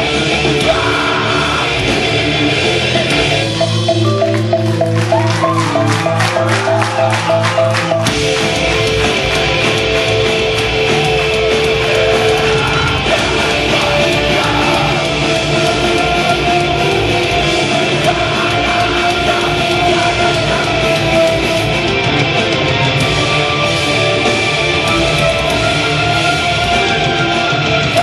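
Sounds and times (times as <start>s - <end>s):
drums: 0.0s - 28.0s
heavy electric guitars: 0.0s - 28.0s.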